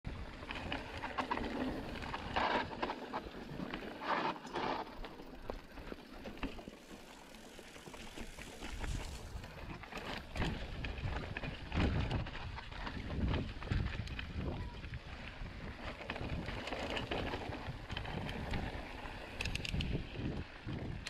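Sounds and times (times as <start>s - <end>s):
wind rumbling on microphone: 0.1s - 5.9s, 8.1s - 21.0s.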